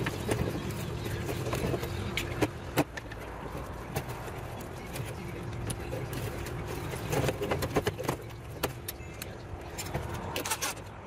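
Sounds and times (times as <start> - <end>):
clicks and rattles of parts: 0.0 - 11.0.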